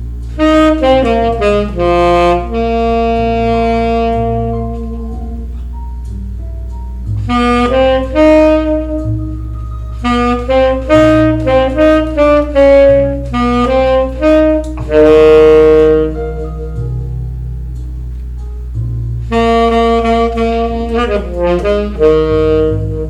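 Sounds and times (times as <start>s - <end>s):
jazz saxophone melody: 0.0s - 23.0s
low accompaniment: 0.0s - 23.0s.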